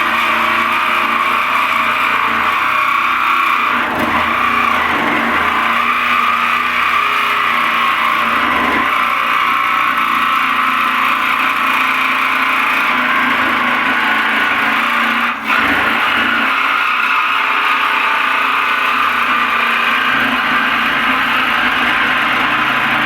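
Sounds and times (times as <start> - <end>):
jigsaw sawing through steel: 0.0 - 23.0.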